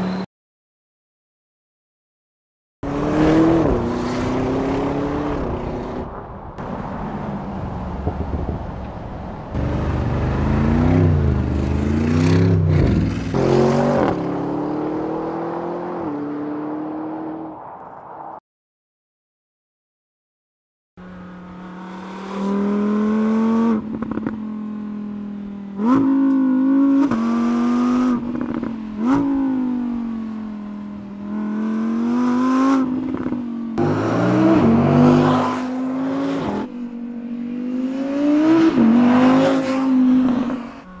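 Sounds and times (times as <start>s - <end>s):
car engine revving: 2.8s - 17.4s, 21.0s - 41.0s.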